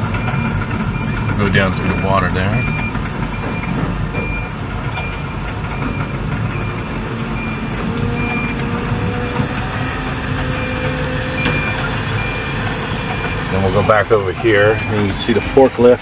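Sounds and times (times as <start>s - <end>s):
backup alarm beeping: 0.0s - 16.0s
diesel engines rumbling: 0.0s - 16.0s
machine engine working: 0.0s - 16.0s.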